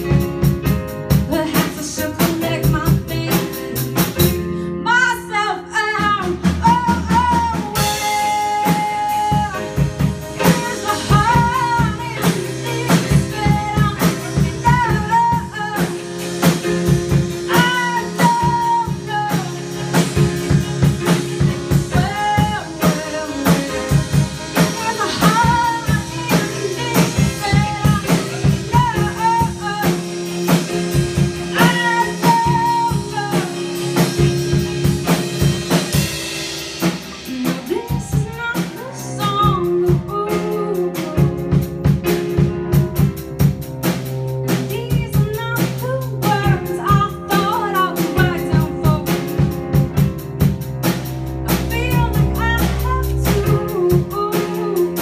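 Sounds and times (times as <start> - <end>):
steady drum beat: 0.0 - 4.5, 5.9 - 55.0
rock band playing: 0.0 - 55.0
woman singing: 1.1 - 36.0, 36.8 - 43.1, 44.4 - 50.1, 51.5 - 55.0.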